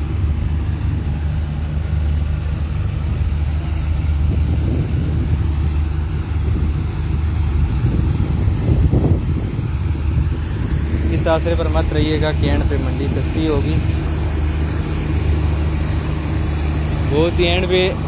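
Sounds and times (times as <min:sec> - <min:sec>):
engine running low rumble: 0:00.0 - 0:18.0.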